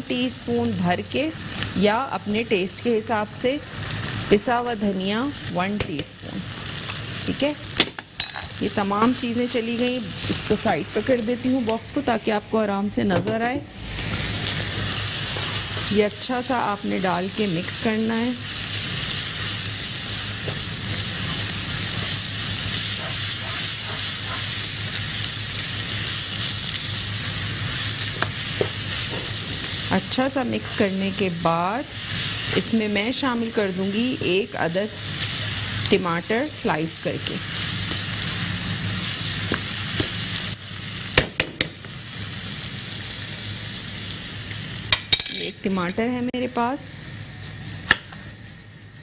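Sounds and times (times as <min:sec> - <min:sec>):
food sizzling in a wok: 0:00.0 - 0:49.0.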